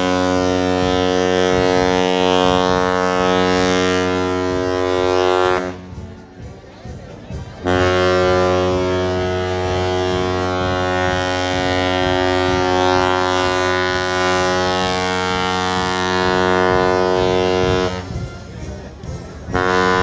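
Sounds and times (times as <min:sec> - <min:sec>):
ship's horn blast: 0:00.0 - 0:06.2, 0:07.6 - 0:20.0.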